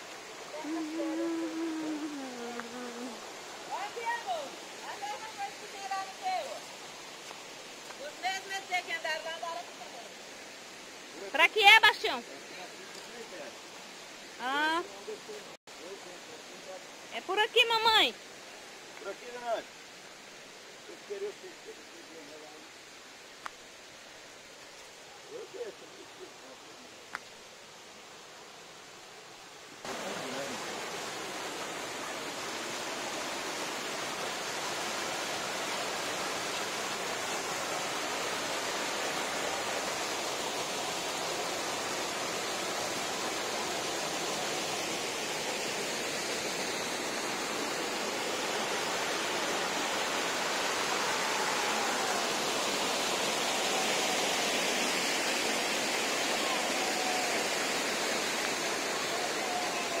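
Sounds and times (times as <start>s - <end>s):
mountain stream and waterfall rushing: 0.0s - 60.0s.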